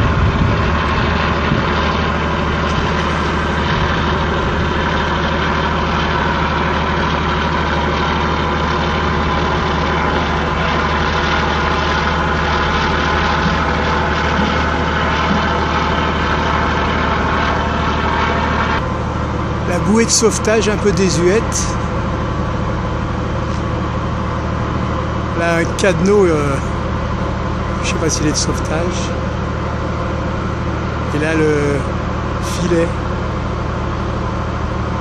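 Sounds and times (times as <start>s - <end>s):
ship diesel engine droning: 0.0s - 35.0s.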